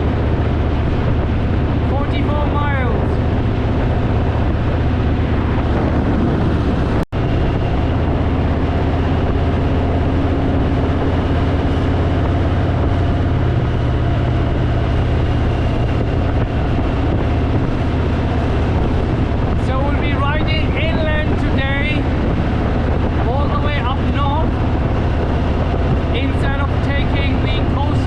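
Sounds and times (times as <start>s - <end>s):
motorcycle engine cruising: 0.0s - 28.0s
wind rushing over microphone: 0.0s - 28.0s.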